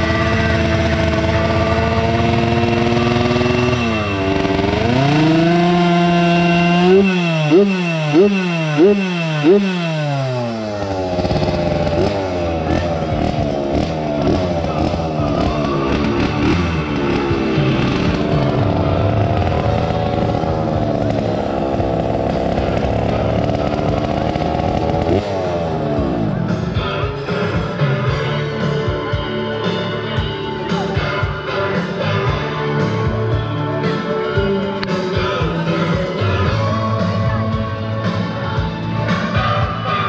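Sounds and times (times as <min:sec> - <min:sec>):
moped engines racing: 0:00.0 - 0:40.0.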